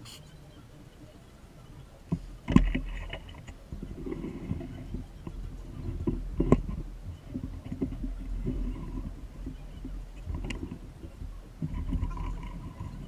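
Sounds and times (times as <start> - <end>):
low uneven rumbling: 0.0 - 13.0.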